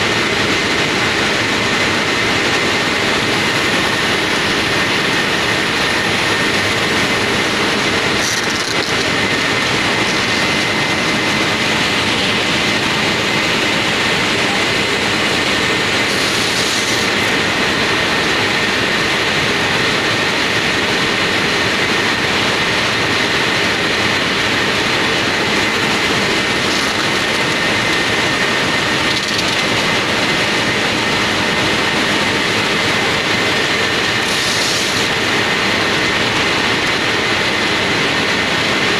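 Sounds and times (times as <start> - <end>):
factory machinery running: 0.0 - 38.9
high mechanical whine: 0.0 - 38.9.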